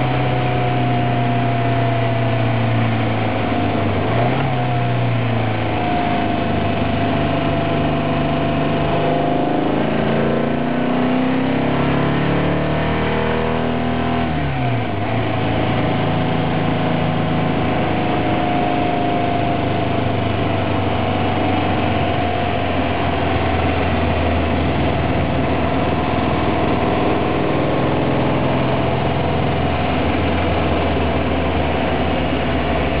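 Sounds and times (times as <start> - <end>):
car engine running: 0.0 - 33.0
road and wind noise: 0.0 - 33.0.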